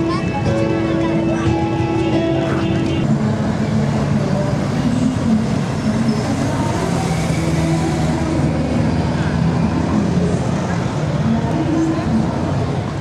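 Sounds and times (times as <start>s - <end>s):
crowd chatter: 0.0s - 13.0s
road traffic: 0.0s - 13.0s.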